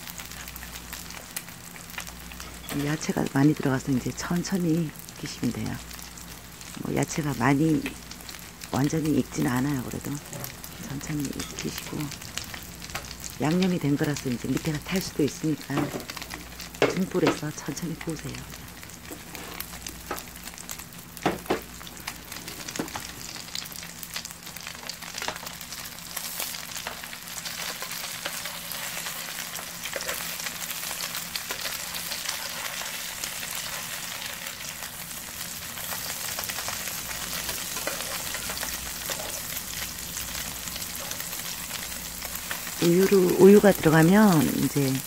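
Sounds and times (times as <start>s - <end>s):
batter sizzling in oil: 0.0s - 45.0s.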